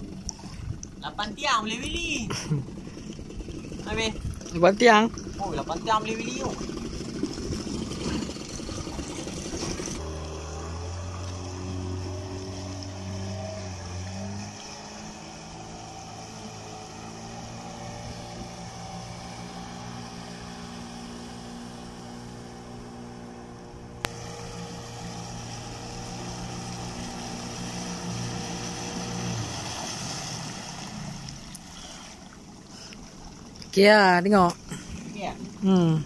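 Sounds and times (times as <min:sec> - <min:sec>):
outboard motor running: 0:00.0 - 0:36.0
water and wind hiss: 0:00.0 - 0:36.0.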